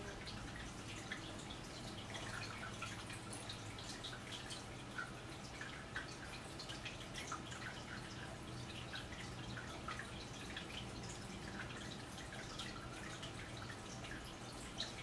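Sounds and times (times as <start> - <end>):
faint drip-like clicks: 0.0 - 15.0
low steady hum: 0.0 - 15.0.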